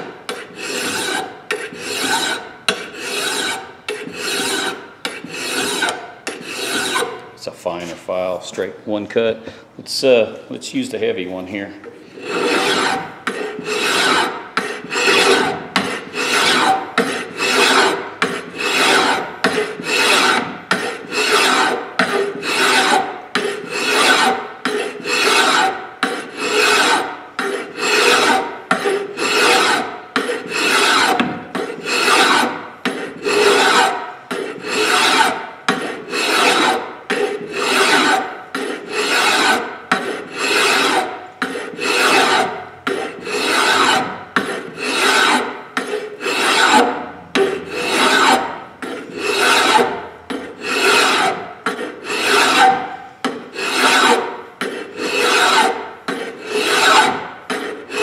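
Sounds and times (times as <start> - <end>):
hand file rasping on steel: 0.0 - 8.0, 12.0 - 58.0.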